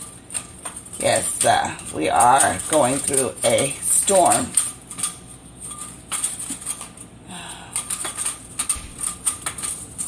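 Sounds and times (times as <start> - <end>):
light clicking and rattling: 0.0 - 10.0.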